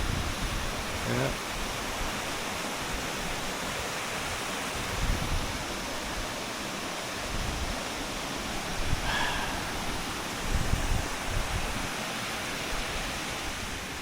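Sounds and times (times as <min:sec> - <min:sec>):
water rushing over cascades: 0:00.0 - 0:14.0.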